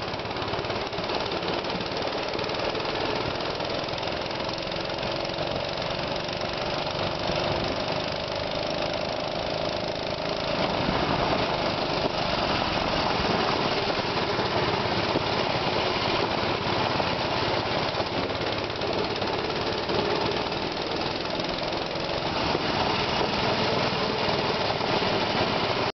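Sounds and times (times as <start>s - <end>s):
mini-bike engine running: 0.0s - 25.9s.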